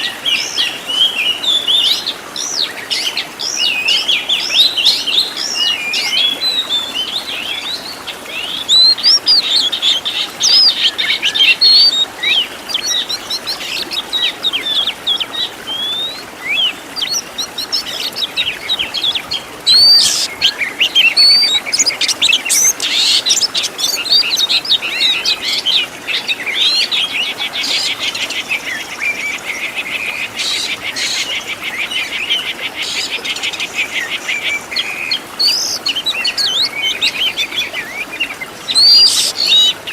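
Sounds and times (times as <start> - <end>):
bird singing: 0.0 - 29.7, 30.4 - 39.9.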